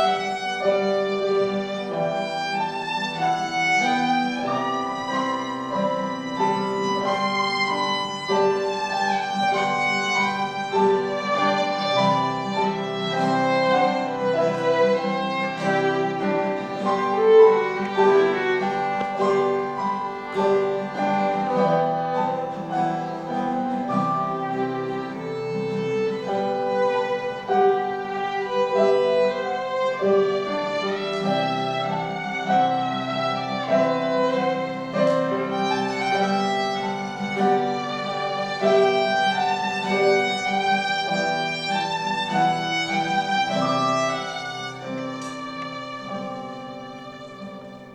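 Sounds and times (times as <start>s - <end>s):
violin melody: 0.0s - 47.9s.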